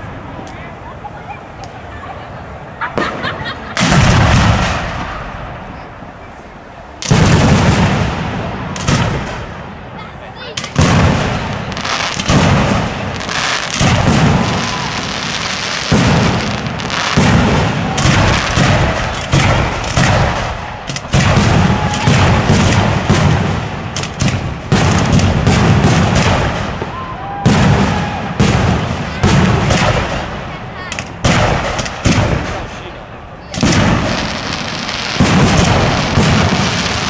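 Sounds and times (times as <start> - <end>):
fireworks bursting: 0.0 - 37.0.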